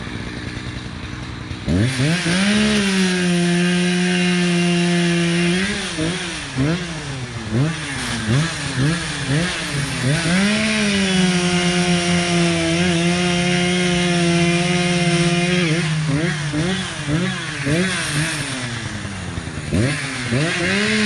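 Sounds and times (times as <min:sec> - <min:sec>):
chainsaw throttle blips: 0:00.0 - 0:21.0.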